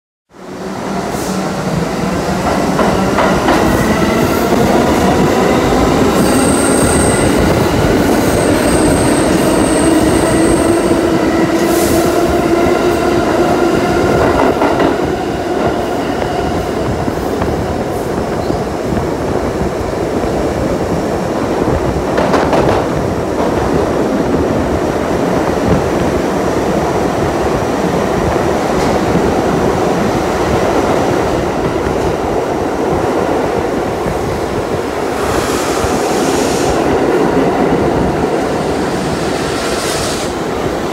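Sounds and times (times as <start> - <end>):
train wheel and rail noise: 0.3 - 40.9.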